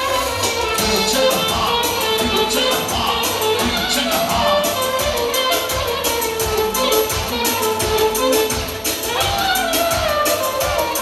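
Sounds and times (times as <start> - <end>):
band music with steady beat: 0.0 - 11.0.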